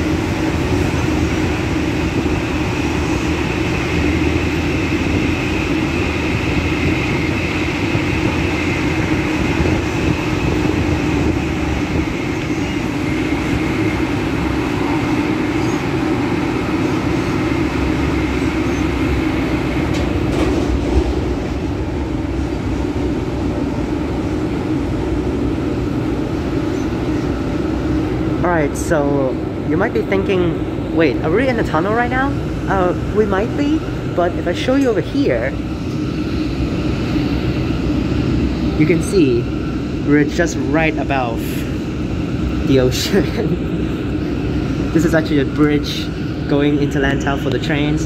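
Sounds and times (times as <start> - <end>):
constant hum: 0.0 - 48.0
high whine: 0.0 - 48.0
wheels rumbling on rail: 0.0 - 48.0.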